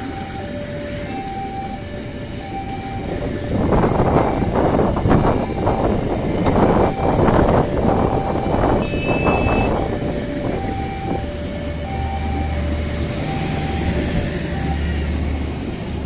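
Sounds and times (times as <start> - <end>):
level-crossing alarm high-low tones: 0.0 - 15.4.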